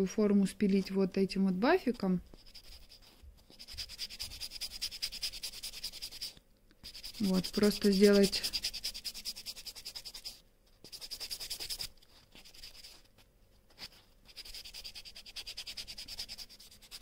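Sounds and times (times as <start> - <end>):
nail buffer rubbing fingernail: 2.3 - 17.0.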